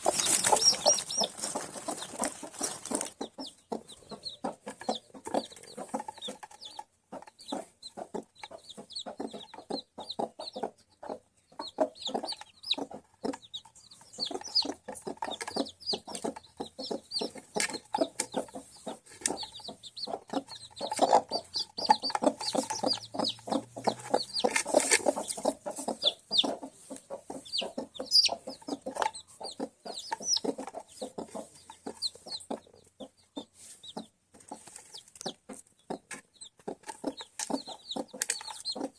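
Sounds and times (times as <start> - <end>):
chicks peeping: 0.0 - 38.9
hens clucking: 0.0 - 38.9.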